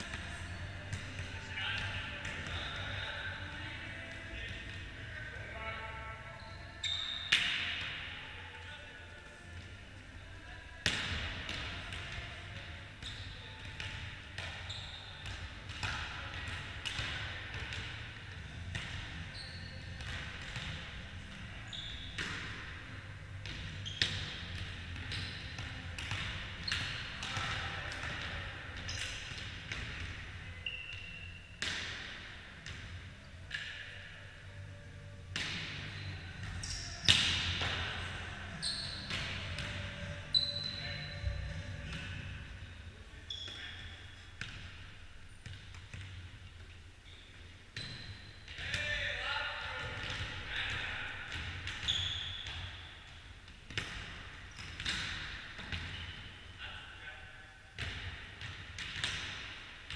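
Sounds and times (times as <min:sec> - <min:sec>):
volleyball hits echoing in hall: 0:00.0 - 0:06.3, 0:07.2 - 0:08.6, 0:10.7 - 0:59.9.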